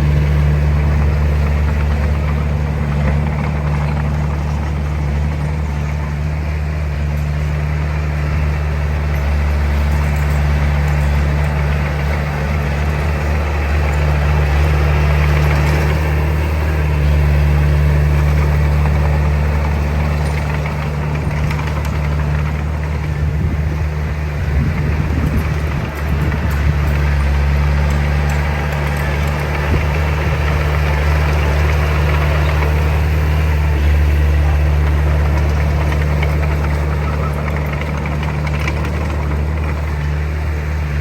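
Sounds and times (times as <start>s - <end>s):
heavy diesel machinery running: 0.0s - 41.0s.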